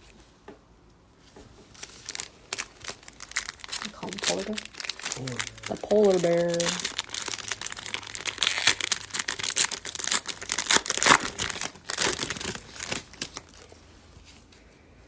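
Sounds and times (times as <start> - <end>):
plastic wrapper crinkling and tearing: 1.6 - 14.4.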